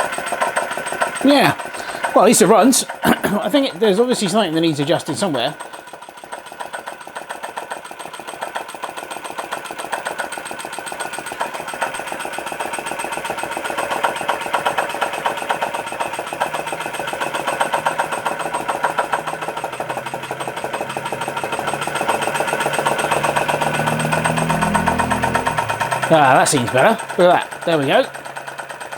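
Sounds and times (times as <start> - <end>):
small engine clattering: 0.0 - 28.9.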